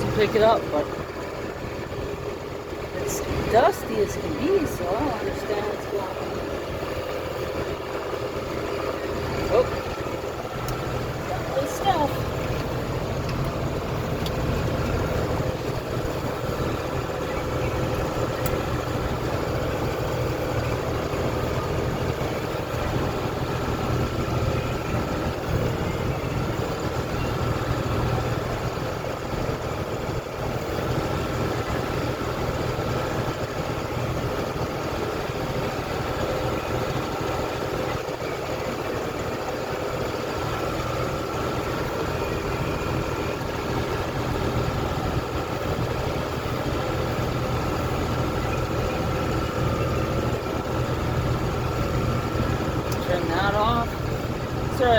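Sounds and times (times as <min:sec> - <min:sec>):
faint steady whine: 0:00.0 - 0:54.9
tractor engine running under load: 0:00.0 - 0:54.9.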